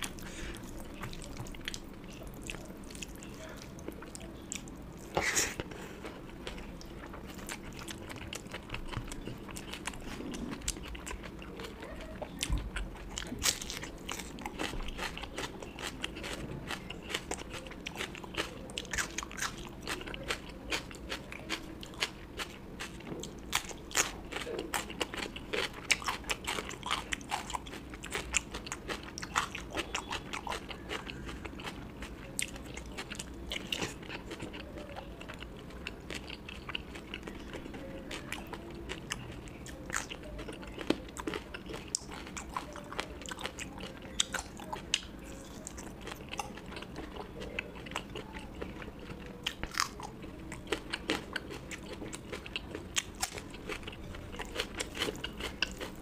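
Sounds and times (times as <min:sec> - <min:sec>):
person chewing and biting food: 0:00.0 - 0:34.6, 0:35.2 - 0:56.0.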